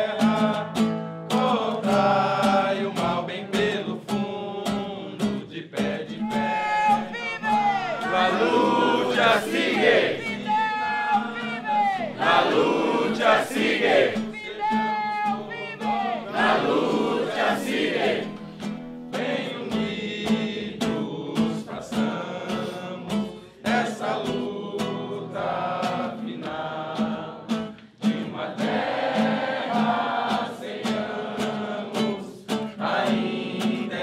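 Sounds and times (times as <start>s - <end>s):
group singing: 0.0s - 34.0s.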